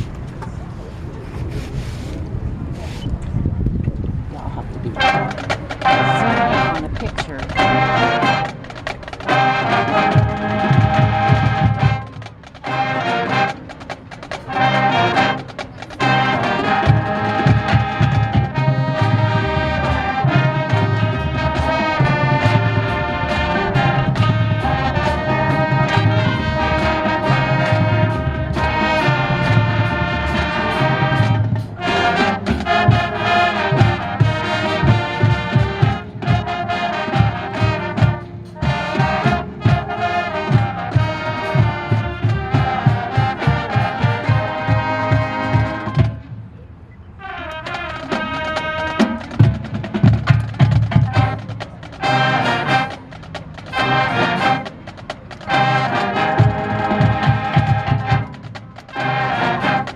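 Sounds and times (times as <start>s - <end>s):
marching band playing: 4.7s - 46.6s, 47.2s - 59.9s.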